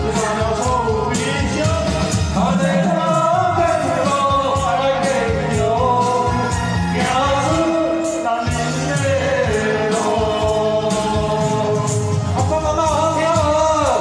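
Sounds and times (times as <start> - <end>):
instrumental music with steady beat: 0.0 - 14.0
man singing into a microphone: 0.0 - 14.0.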